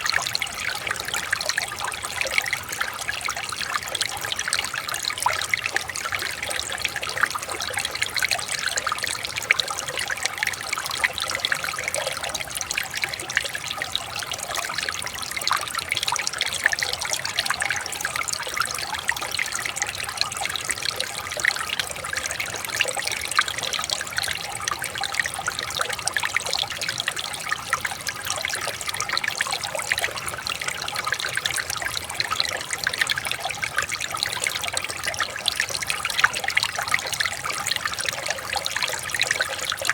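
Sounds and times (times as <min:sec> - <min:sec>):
river water trickling over stones: 0:00.0 - 0:39.9.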